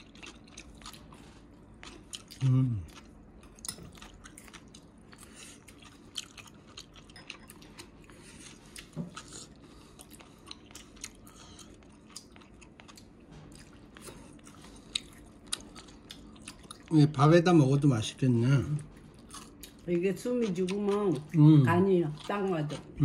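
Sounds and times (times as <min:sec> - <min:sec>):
chewing crisp salad: 0:00.0 - 0:23.0.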